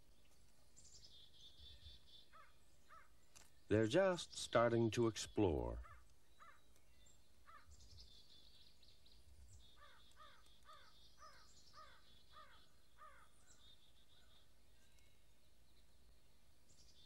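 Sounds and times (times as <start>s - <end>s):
faint short bird calls: 0.8s - 15.4s.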